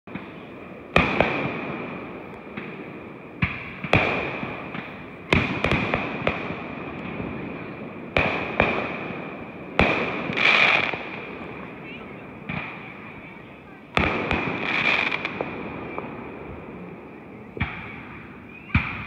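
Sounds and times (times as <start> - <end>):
fireworks bursting: 0.1 - 19.0.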